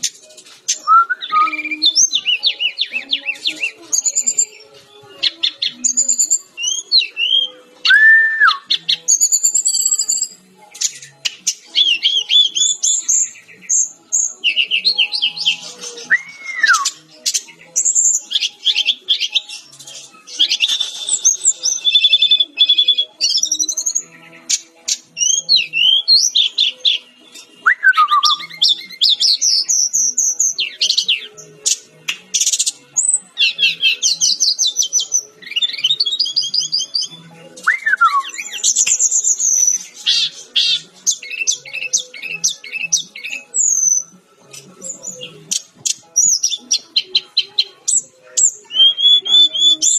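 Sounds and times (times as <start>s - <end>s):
flycatcher singing trills: 0.0s - 49.9s.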